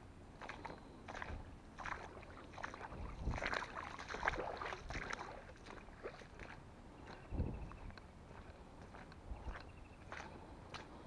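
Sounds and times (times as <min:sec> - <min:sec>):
splashing in shallow water: 0:00.3 - 0:11.0.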